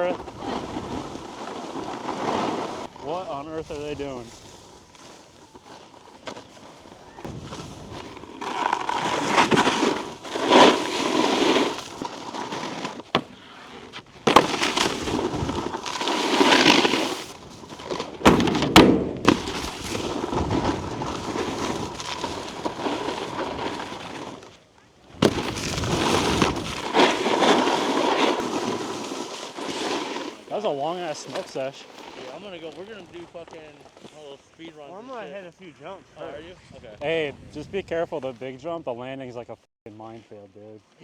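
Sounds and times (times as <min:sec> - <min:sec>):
snowboard knocks and clatters: 0:00.0 - 0:34.3
snowboard edges scraping on ice: 0:00.0 - 0:35.4.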